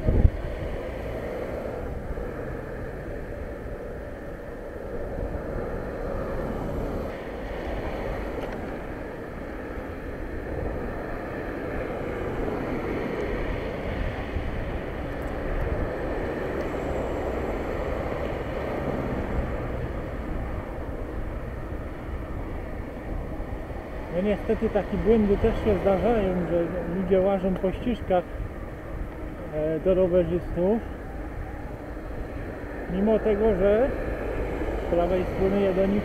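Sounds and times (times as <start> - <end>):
bicycle tyres rolling: 0.0 - 36.0
wind of riding: 0.0 - 36.0.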